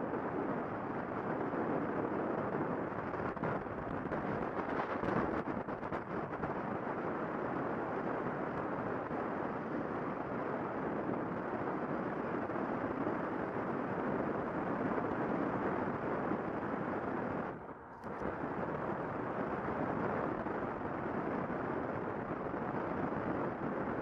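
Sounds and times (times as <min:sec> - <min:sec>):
wind rush and road noise: 0:00.0 - 0:24.0.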